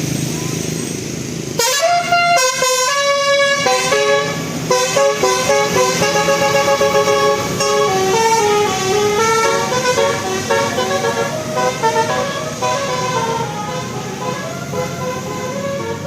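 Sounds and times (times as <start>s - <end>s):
bus horn playing a tune: 1.6s - 16.0s.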